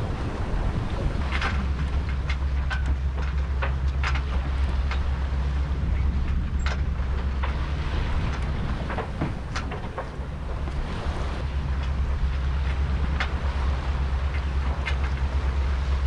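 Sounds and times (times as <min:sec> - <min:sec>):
water splashing on hull: 0:00.0 - 0:16.0
wind buffeting microphone: 0:00.0 - 0:16.0.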